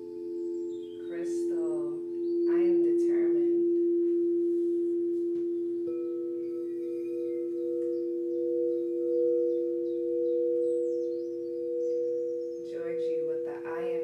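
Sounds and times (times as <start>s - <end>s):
singing bowls ringing: 0.0s - 14.0s.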